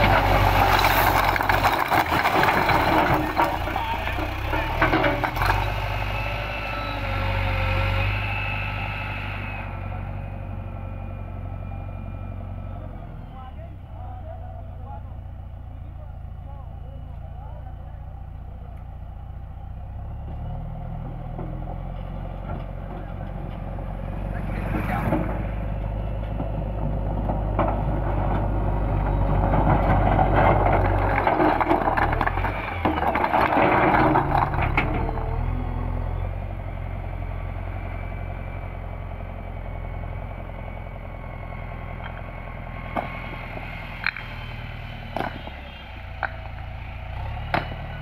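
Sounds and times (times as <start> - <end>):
diesel engine revving and idling: 0.0 - 48.0.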